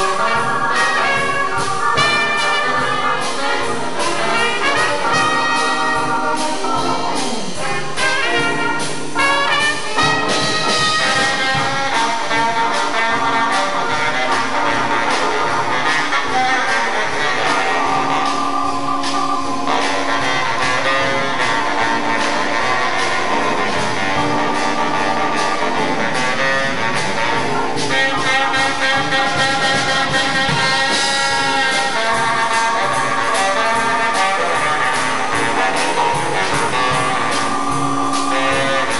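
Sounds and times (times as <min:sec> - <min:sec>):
drums: 0:00.0 - 0:38.9
jazz band horns playing: 0:00.0 - 0:38.9.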